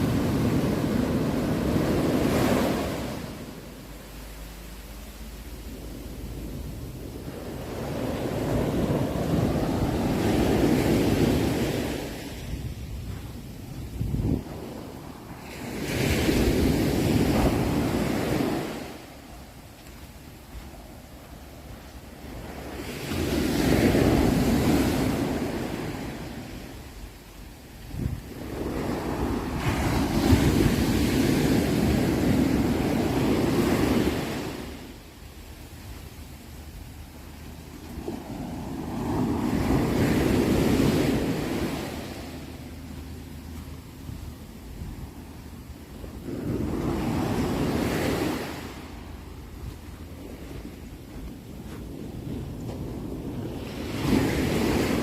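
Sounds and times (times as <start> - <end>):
sea waves washing onto shore: 0.0 - 55.0.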